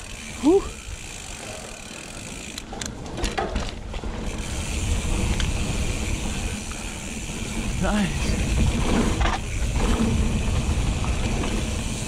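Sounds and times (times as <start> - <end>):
bike tyres on dirt trail: 0.0 - 12.0
bike clicks and knocks: 1.0 - 7.2, 8.4 - 12.0.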